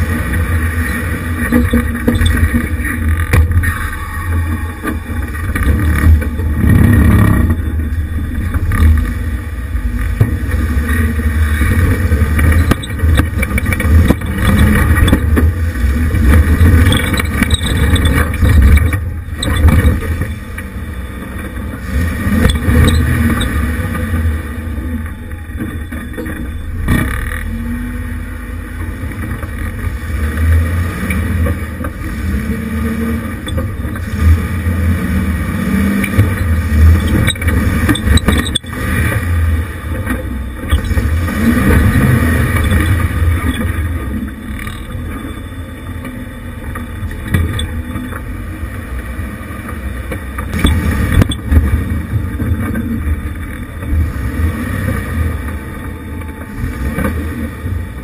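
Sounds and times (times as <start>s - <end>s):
engine running under load: 0.0s - 58.0s.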